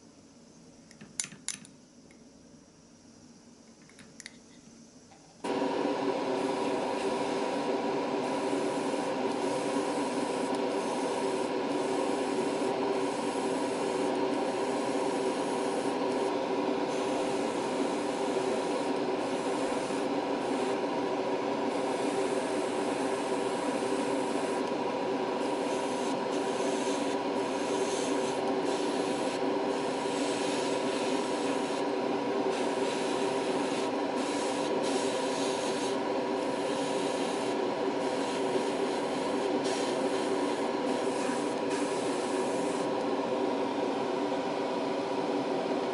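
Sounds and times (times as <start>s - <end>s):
airbrush air hissing: 5.4s - 43.2s
airbrush compressor motor hum: 5.4s - 45.6s.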